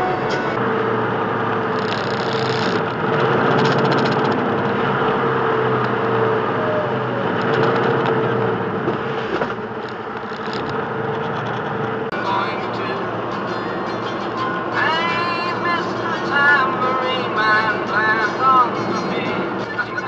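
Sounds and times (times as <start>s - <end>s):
steady whine: 0.0s - 20.0s
truck engine and road noise: 0.0s - 20.0s.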